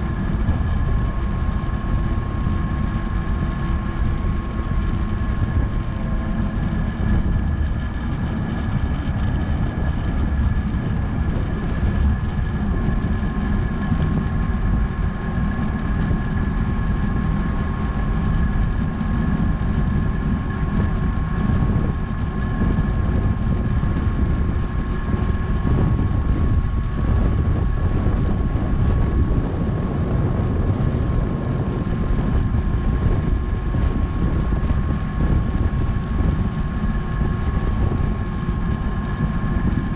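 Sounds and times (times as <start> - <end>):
thin steady whine: 0.0 - 39.9
wind rushing over microphone: 0.0 - 39.9.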